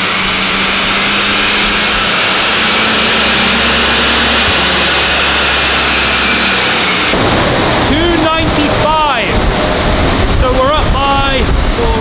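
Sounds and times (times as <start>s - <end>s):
loud machinery rushing: 0.0s - 12.0s
low machinery hum: 0.0s - 12.0s.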